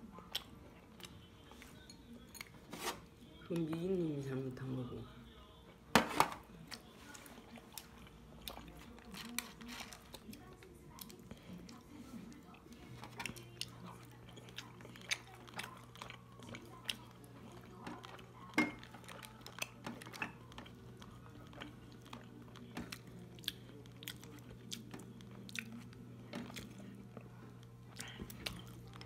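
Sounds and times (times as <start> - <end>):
chewing: 0.0 - 2.6, 6.6 - 29.0.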